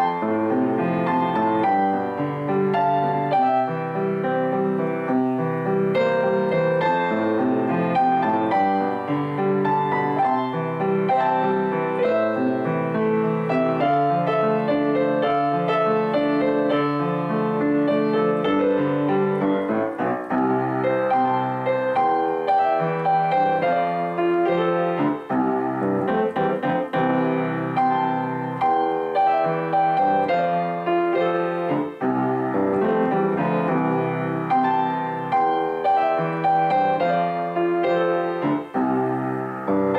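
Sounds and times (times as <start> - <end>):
gentle piano music: 0.0 - 39.9.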